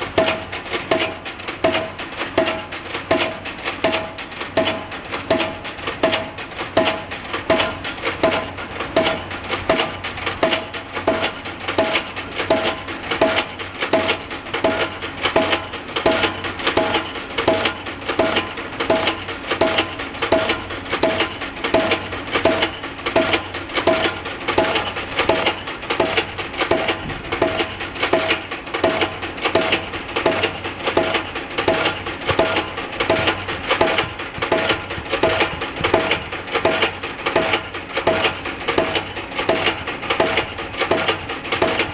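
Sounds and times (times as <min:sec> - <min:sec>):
low machinery hum: 0:00.0 - 0:41.9
pile-driving hammer striking: 0:00.0 - 0:41.9.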